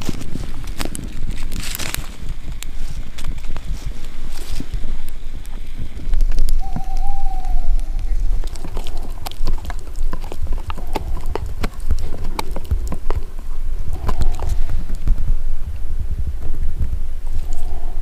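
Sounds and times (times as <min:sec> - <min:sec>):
dog chewing something hard: 0:00.0 - 0:15.4
low rumble: 0:00.0 - 0:18.0.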